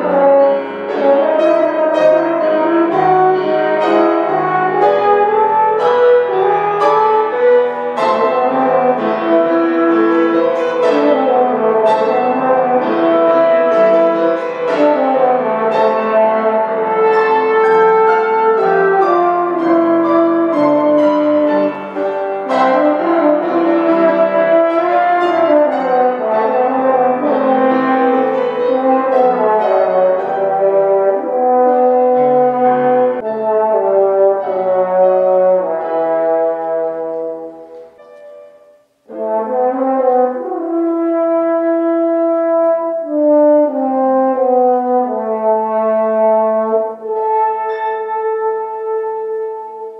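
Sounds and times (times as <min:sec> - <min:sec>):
piano accompaniment: 0:00.0 - 0:49.9
solo brass instrument melody: 0:00.0 - 0:49.9.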